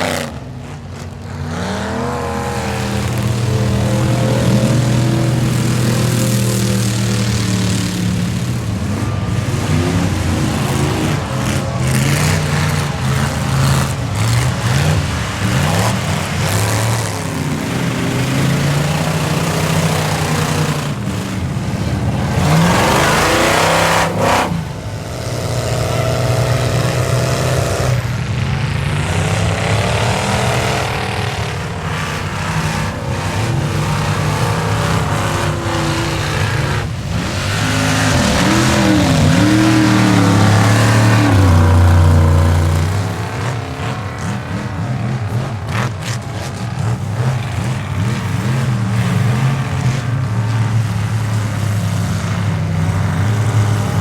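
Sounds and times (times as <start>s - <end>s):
pickup truck engine revving: 0.0s - 54.0s.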